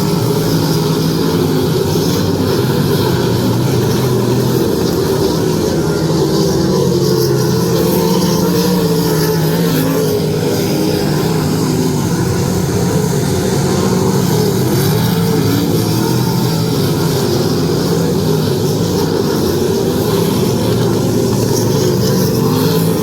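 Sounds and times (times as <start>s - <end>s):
sprint car engines racing: 0.0s - 23.0s.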